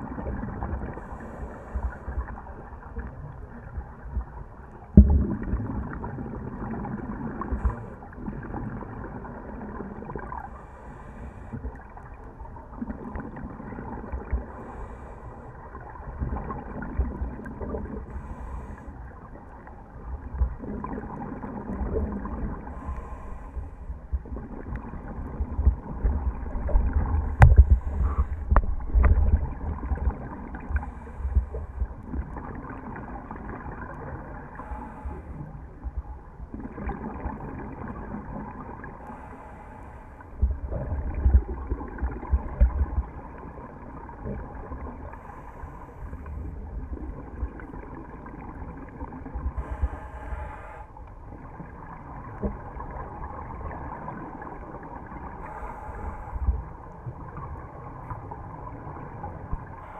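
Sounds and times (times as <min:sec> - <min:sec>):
muffled bubbling exhaled air: 0:00.0 - 0:12.1, 0:12.7 - 0:59.9.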